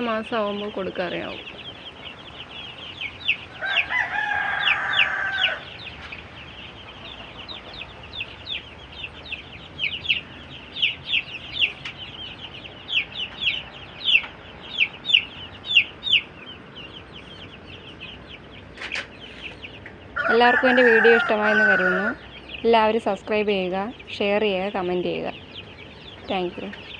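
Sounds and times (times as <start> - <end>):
chicks peeping: 0.0 - 26.9.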